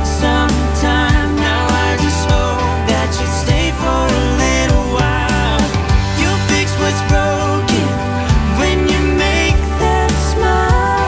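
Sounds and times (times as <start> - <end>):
pop music with singing: 0.0 - 11.0.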